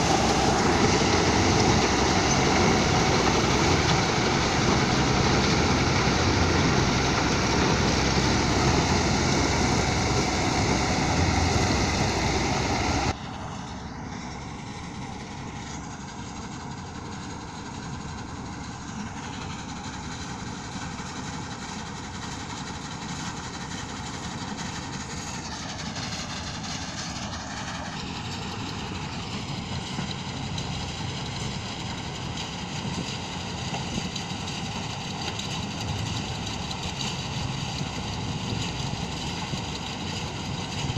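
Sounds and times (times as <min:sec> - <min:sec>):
farm machinery engine running: 0:00.0 - 0:40.9.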